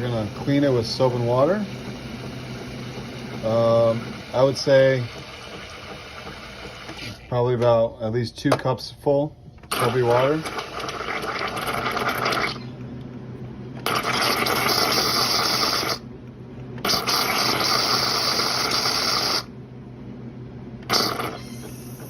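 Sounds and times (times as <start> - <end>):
coffee machine pump buzzing: 0.0 - 7.5, 9.6 - 19.6, 20.8 - 22.0.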